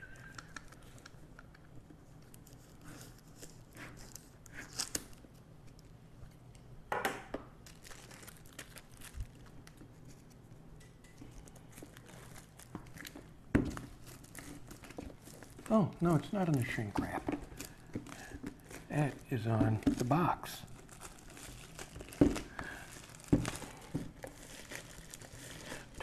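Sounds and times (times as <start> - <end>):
plastic wrap crinkling and tearing: 0.0 - 6.4, 7.5 - 26.0.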